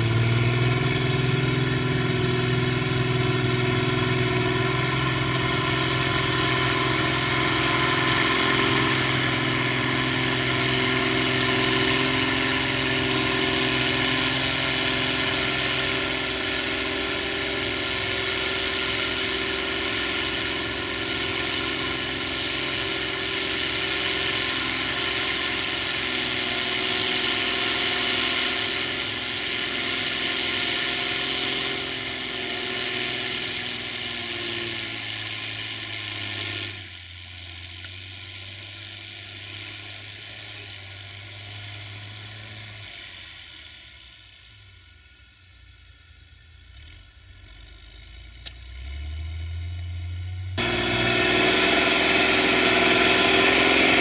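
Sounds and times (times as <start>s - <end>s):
tractor diesel engine under load: 0.0s - 44.5s, 46.4s - 54.0s.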